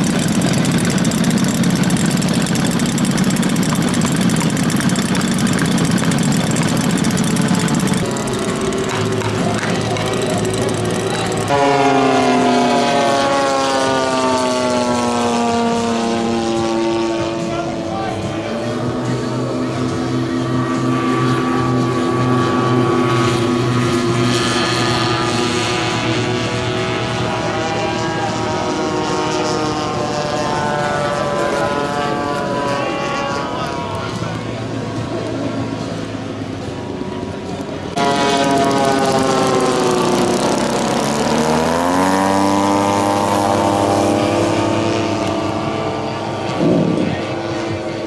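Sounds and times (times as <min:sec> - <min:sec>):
engine running: 0:00.0 - 0:48.0
model airplane flying past: 0:00.0 - 0:48.0.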